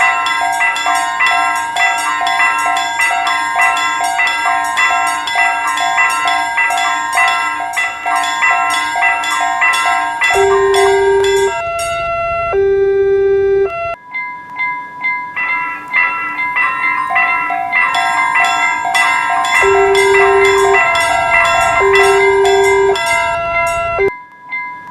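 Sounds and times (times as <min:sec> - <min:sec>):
railroad crossing bell ringing: 0:00.0 - 0:12.8, 0:13.6 - 0:24.9
long steady tones: 0:00.0 - 0:14.0, 0:15.6 - 0:24.1.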